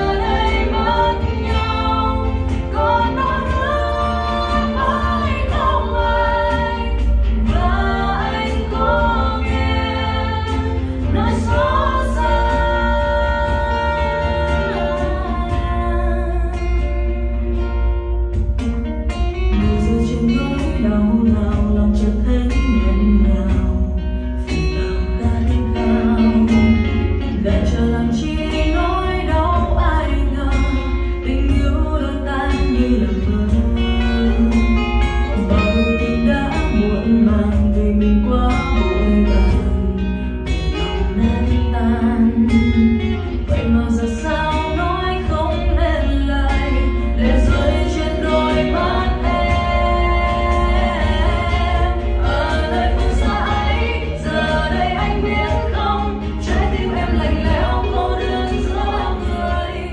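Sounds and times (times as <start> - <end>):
song with guitar and singing: 0.0 - 59.9.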